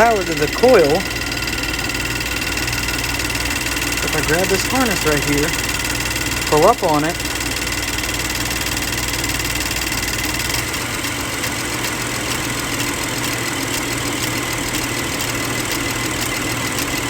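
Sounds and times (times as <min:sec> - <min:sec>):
engine idling with misfire: 0:00.0 - 0:17.0.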